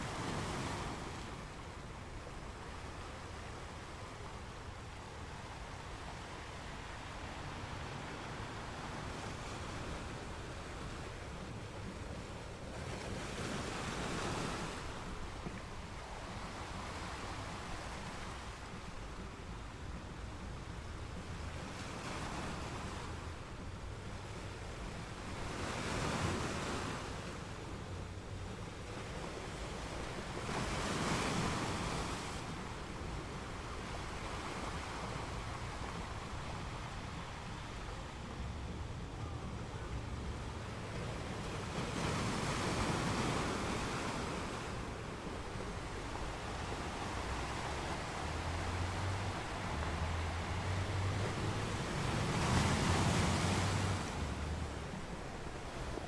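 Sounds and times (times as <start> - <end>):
ocean waves on sand beach: 0.0 - 56.0
steady surf hiss: 0.0 - 56.0.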